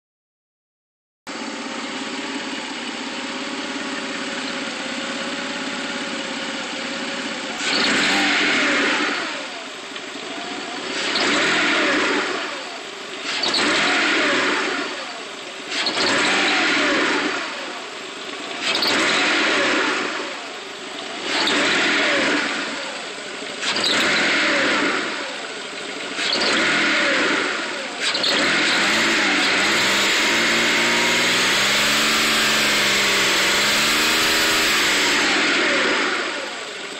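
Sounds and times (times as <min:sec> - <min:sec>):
car engine idling and revving: 0:01.3 - 0:36.9.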